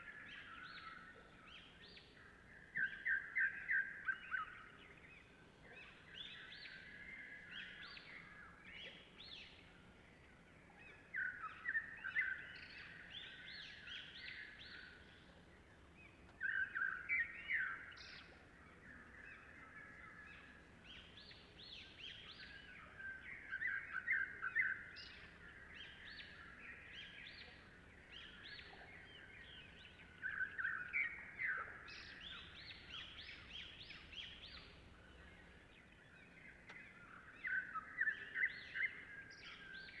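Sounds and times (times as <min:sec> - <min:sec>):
songbirds chirping: 0:00.0 - 0:40.0.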